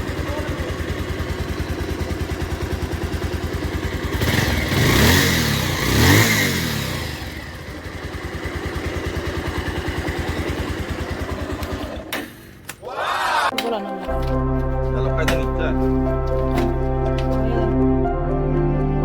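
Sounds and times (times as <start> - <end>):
motorcycle engine idling and revving: 0.0 - 12.7, 14.2 - 17.8.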